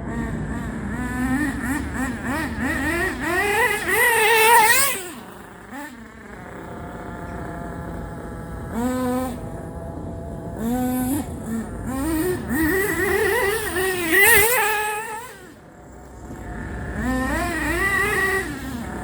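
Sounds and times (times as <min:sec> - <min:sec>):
model glow engine revving: 0:00.0 - 0:19.0.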